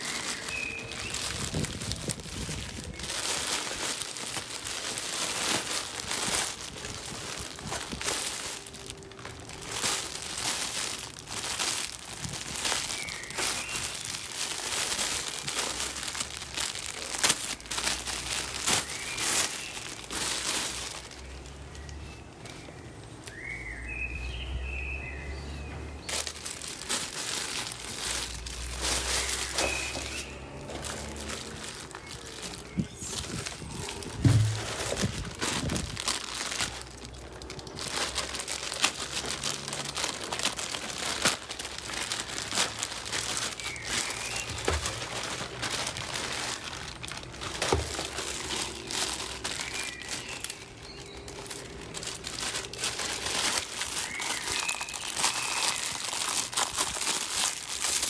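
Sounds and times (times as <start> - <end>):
plastic packaging crinkling: 0.0 - 23.6, 26.0 - 58.0.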